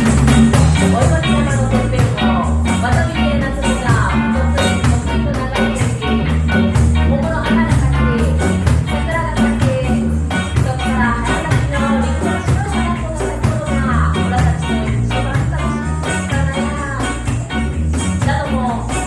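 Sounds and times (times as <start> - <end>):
live reggae band playing: 0.0 - 19.0.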